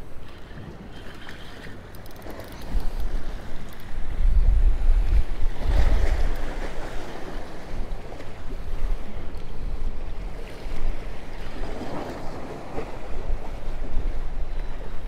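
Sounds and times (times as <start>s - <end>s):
wind buffeting microphone: 2.6s - 15.0s.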